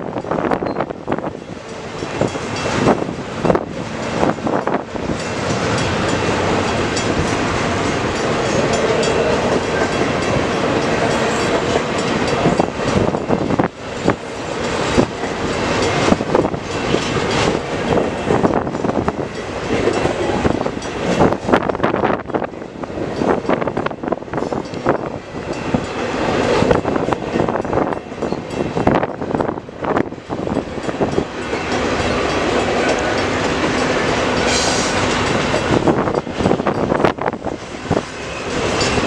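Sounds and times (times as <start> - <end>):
steel wheels rumbling on rails: 0.0 - 39.0.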